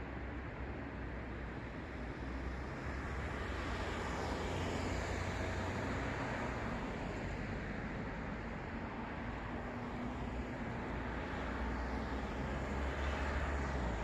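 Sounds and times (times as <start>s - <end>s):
low rumble of cars: 0.0s - 14.0s.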